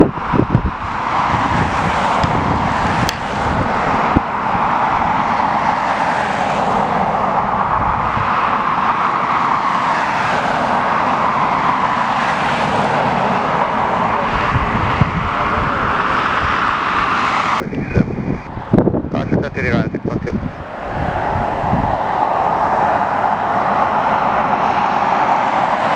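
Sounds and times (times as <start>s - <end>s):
jet airliner engines: 0.0s - 25.9s
wind buffeting microphone: 0.0s - 25.9s.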